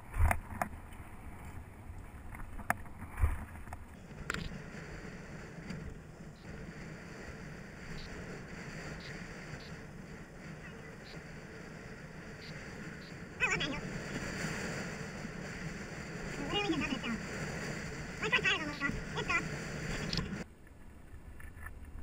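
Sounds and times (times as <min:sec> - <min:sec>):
bike tyres rolling on pavement: 0:00.0 - 0:22.0
wind noise: 0:00.0 - 0:22.0.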